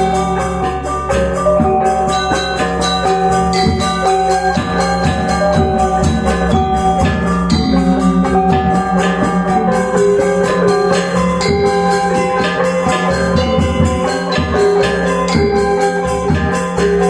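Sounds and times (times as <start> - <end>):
gamelan ensemble playing: 0.0 - 17.0.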